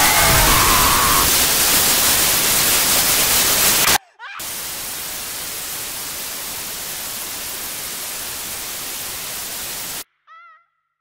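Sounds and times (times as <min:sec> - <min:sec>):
static hiss: 0:00.0 - 0:10.0.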